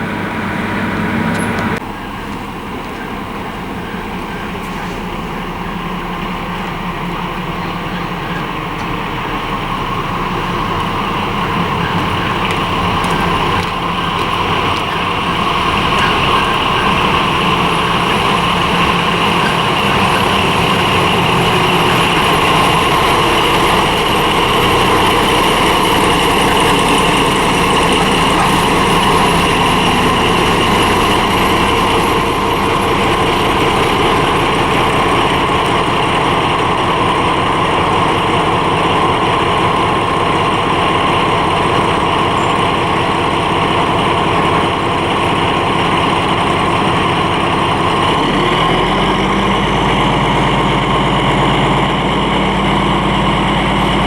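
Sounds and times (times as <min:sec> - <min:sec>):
deep rumble: 0:00.0 - 0:54.0
locomotive running: 0:00.0 - 0:54.0.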